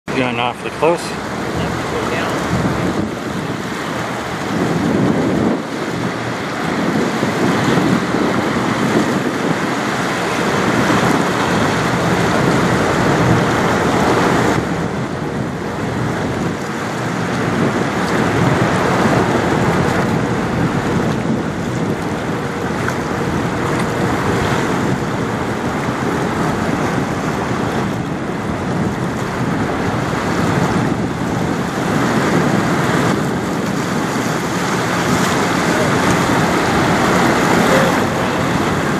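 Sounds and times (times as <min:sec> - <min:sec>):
rush of water along ship hull: 0:00.0 - 0:38.9
wind noise on microphone: 0:00.1 - 0:38.9.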